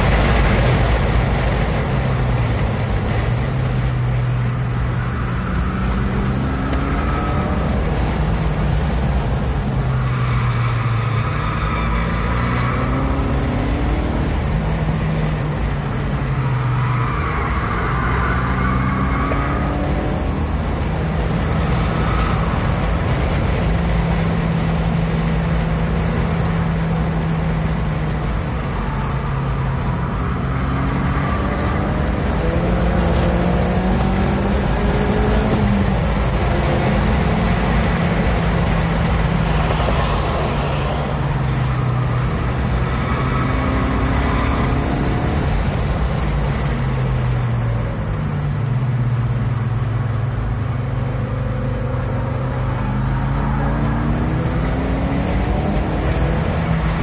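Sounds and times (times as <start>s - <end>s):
car engine revving: 0.0s - 57.0s
steady road noise: 0.0s - 57.0s.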